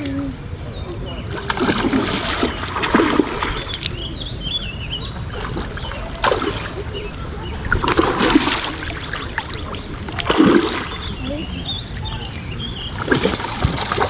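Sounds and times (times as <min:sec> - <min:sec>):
water splashing and trickling: 0:01.4 - 0:04.4, 0:05.2 - 0:14.0.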